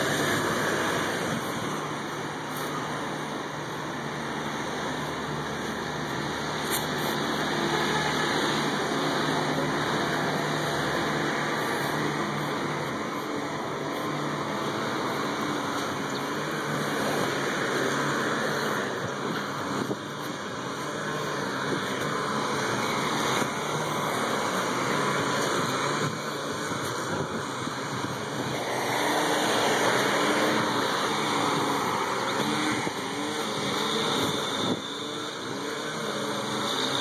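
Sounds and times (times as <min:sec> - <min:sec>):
road traffic hiss: 0:00.0 - 0:37.0.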